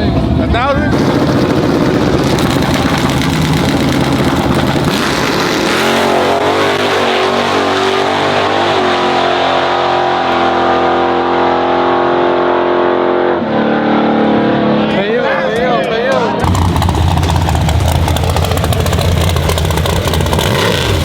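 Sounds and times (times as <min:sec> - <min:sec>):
racing truck engines at full throttle: 0:00.0 - 0:21.0.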